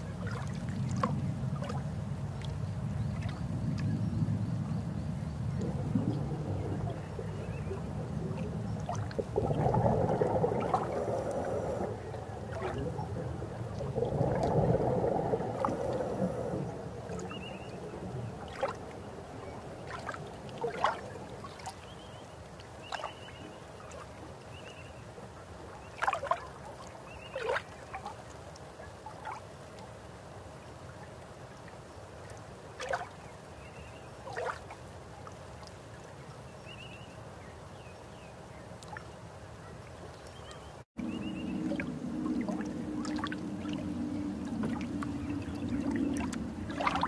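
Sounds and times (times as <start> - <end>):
underwater rumble and hiss: 0.0 - 34.3, 41.0 - 47.0.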